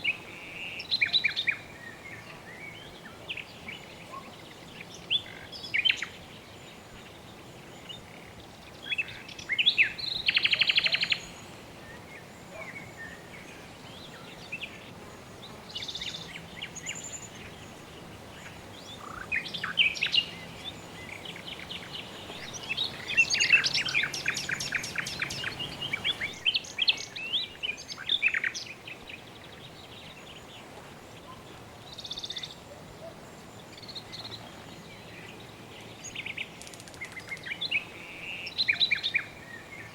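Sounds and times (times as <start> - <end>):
background hiss: 0.0 - 39.9
birds chirping and trilling: 0.5 - 39.9.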